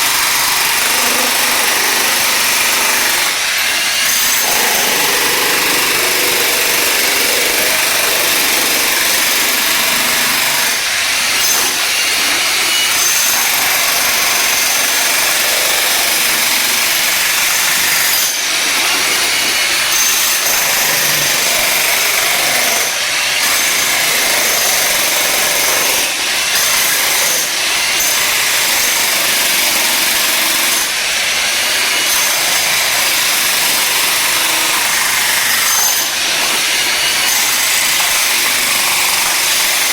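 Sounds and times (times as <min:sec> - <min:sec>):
electric jackhammer chiselling: 0:00.0 - 0:39.9.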